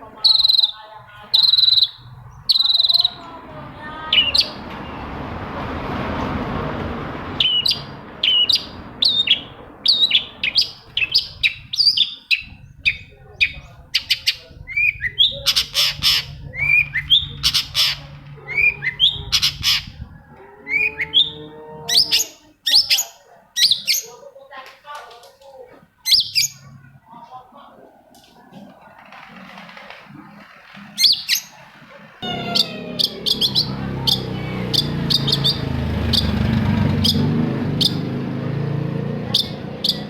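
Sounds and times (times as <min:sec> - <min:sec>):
bird chirping and squawking: 0:00.0 - 0:04.7, 0:07.3 - 0:24.2, 0:26.0 - 0:26.8, 0:29.0 - 0:38.2, 0:39.3 - 0:40.0.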